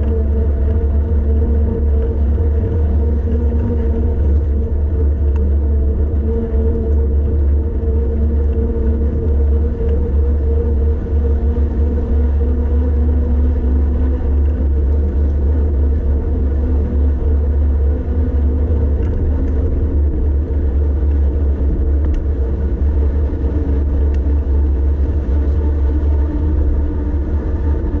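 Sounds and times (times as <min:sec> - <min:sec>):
faint steady hum: 0:00.0 - 0:28.0
wind rumble on microphone: 0:00.0 - 0:28.0.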